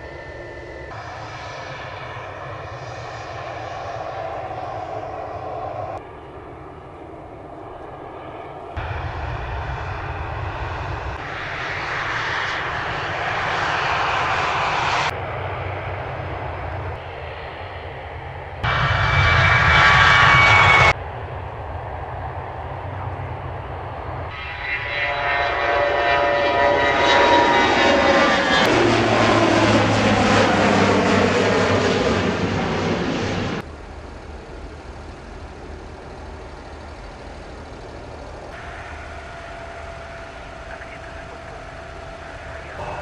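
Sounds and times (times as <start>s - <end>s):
steady engine noise: 0.0s - 25.2s, 26.0s - 43.0s
jet engine whine: 0.0s - 43.0s
plane passing close: 0.0s - 43.0s.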